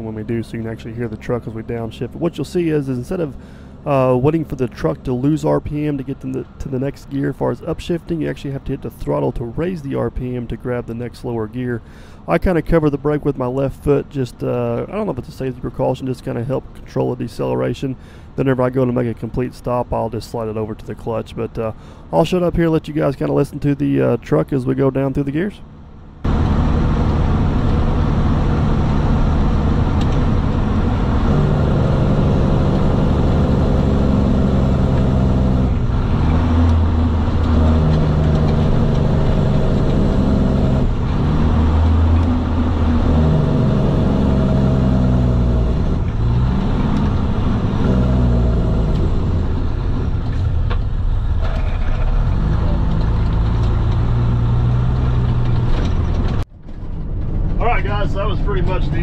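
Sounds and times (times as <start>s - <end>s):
truck diesel engine downshifting: 0.0s - 59.0s.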